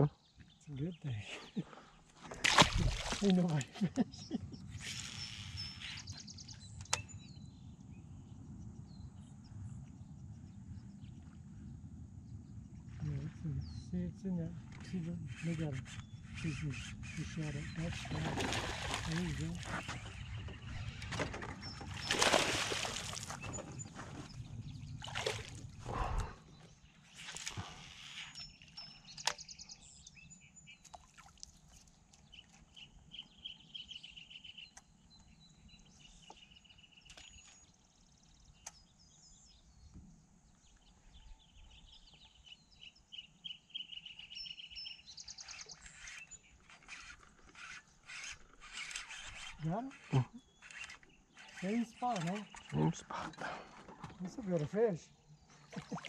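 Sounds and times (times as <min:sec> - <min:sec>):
small birds trilling: 0:00.0 - 0:56.0.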